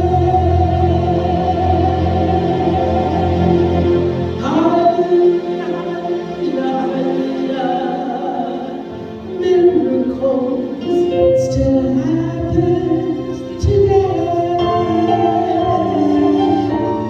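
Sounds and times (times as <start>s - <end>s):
gospel choir singing: 0.0s - 17.0s
musical accompaniment: 0.0s - 17.0s.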